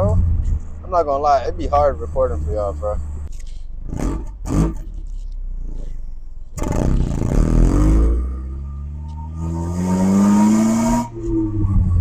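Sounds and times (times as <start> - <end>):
car engine accelerating: 0.0 - 12.0
wind and road noise: 0.0 - 12.0.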